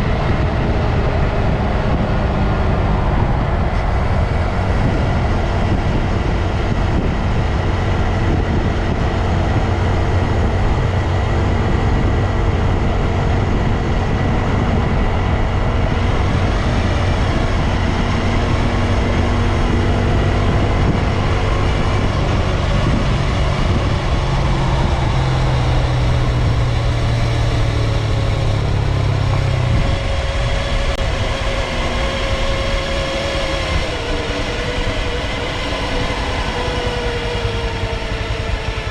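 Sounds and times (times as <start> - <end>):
motorcycle engine running: 0.0 - 38.9
wind noise: 0.0 - 38.9.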